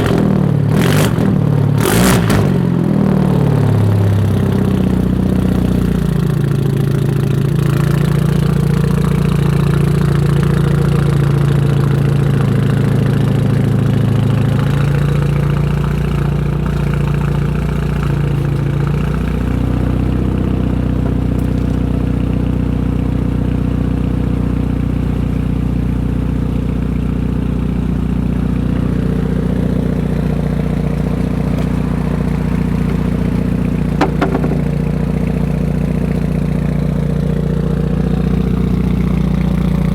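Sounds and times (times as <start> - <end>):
car engine idling: 2.7 - 39.9.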